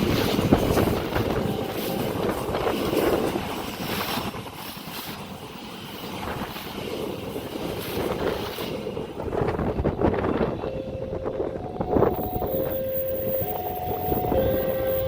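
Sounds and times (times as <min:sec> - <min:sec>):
train rumbling on track: 0:00.0 - 0:15.0
wind buffeting microphone: 0:00.0 - 0:15.0.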